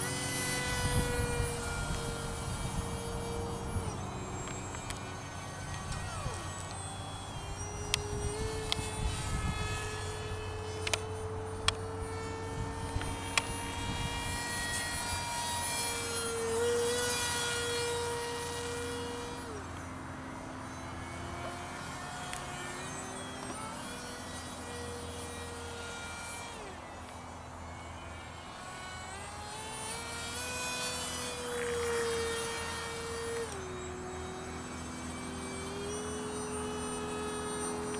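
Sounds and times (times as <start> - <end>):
model plane propeller buzzing: 0.0 - 37.9.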